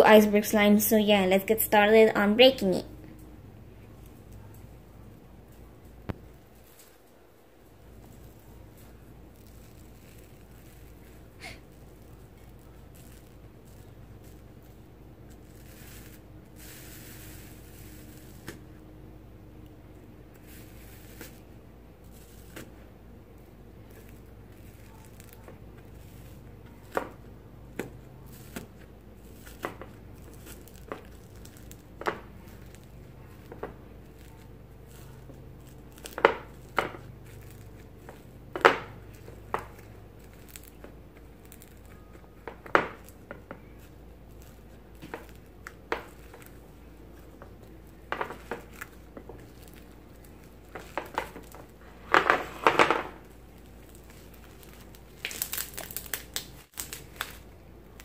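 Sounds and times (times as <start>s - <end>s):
slime crust crackling: 0.0s - 58.0s.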